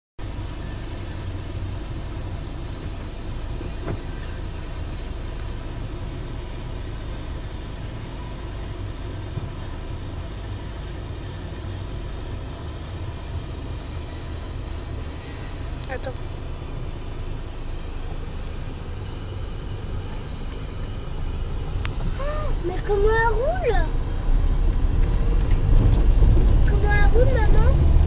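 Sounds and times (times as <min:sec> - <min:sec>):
low vehicle rumble inside car: 0:00.2 - 0:28.0.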